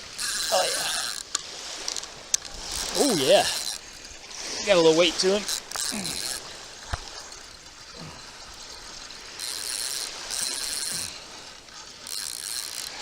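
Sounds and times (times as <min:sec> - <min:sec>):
fishing reel buzzing: 0:00.0 - 0:13.0.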